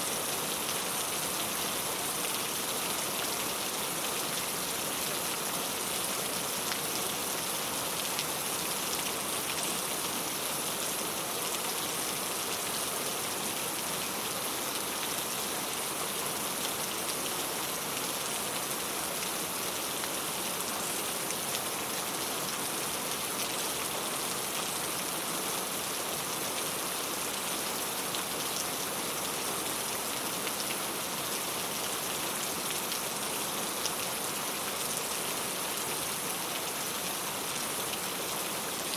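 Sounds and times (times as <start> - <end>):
rain on a tile roof: 0.0 - 38.9.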